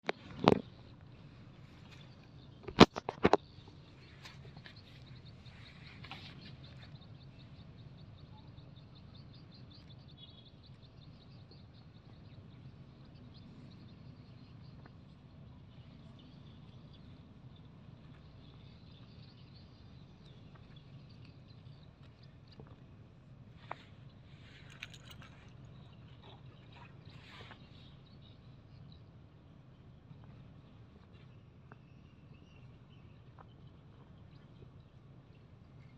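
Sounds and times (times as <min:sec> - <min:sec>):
low background rumble: 0:03.4 - 0:35.9.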